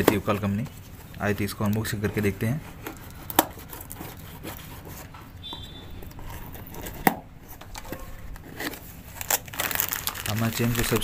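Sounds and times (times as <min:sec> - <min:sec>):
cardboard box tape scraping: 0:00.0 - 0:11.0.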